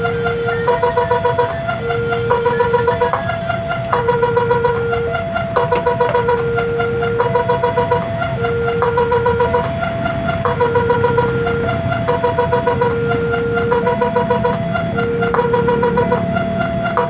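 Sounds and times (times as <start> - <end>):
level crossing warning beeps: 0.0 - 17.0
low rumble of vehicles: 0.0 - 17.0.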